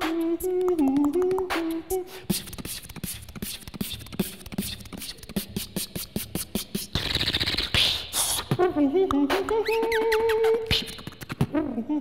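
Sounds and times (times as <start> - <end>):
person beatboxing: 0.0 - 12.0.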